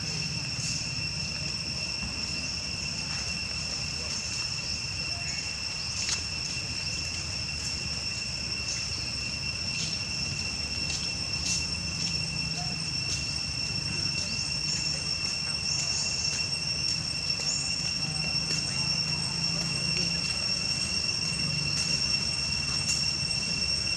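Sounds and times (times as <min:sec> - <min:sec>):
high-pitched insect call: 0:00.0 - 0:23.9.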